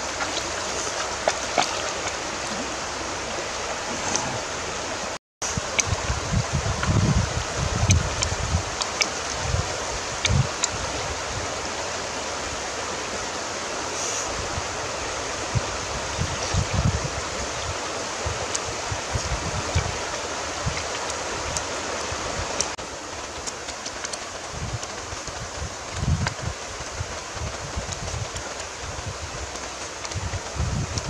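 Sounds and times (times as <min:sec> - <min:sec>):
river rushing over rocks: 0:00.0 - 0:31.0
wind buffeting the microphone: 0:00.0 - 0:31.0.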